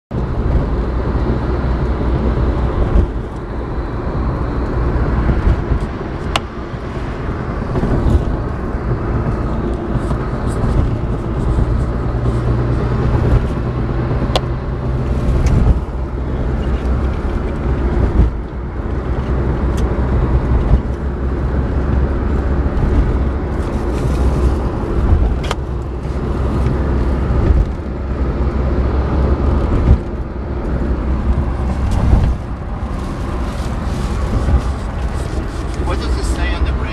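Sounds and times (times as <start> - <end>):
car engine and road noise: 0.1 - 36.9.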